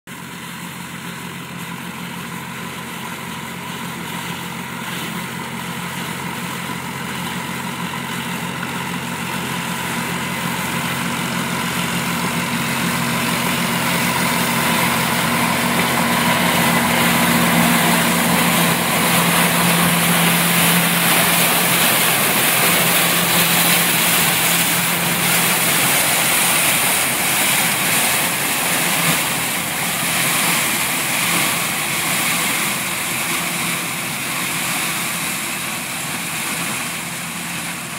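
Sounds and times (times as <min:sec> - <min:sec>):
combine harvester running: 0:00.1 - 0:37.9.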